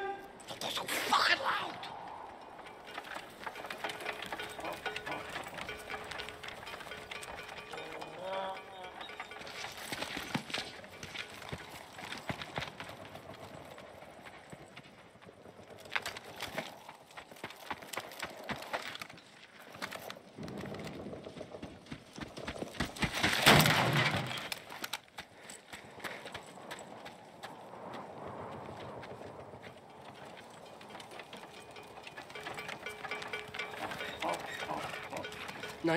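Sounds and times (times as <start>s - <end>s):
hooves clip-clopping on dirt: 0.1s - 35.9s.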